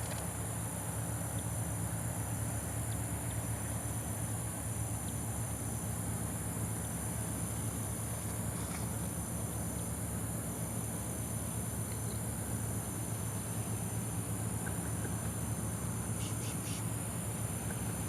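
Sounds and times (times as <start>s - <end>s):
insect chorus drone: 0.0s - 18.0s.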